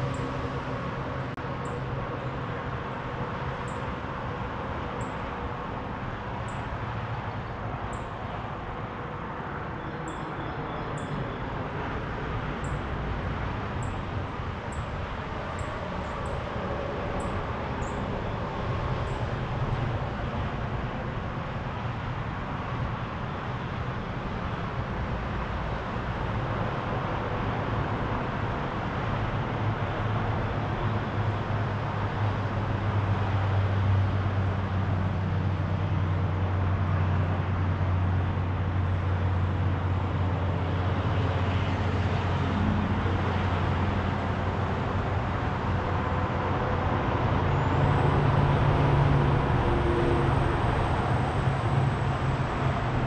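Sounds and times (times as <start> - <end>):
heavy vehicle engine drone: 0.0 - 53.0
road traffic noise: 0.0 - 53.0.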